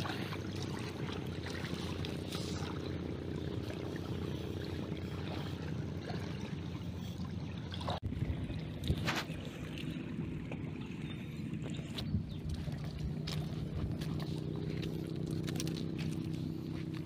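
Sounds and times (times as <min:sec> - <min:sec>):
shallow water splashing: 0:00.0 - 0:17.0
steady low rumble: 0:00.0 - 0:17.0.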